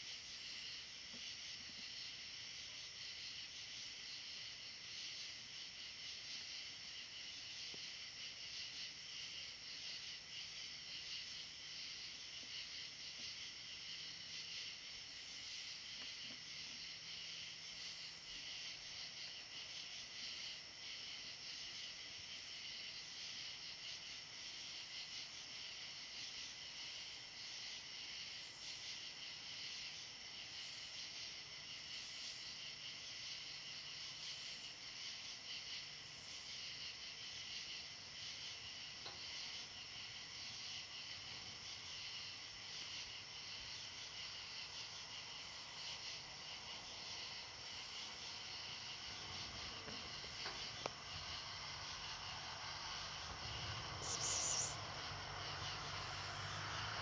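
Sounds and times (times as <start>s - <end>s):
crickets and night insects trilling: 0.0s - 57.0s.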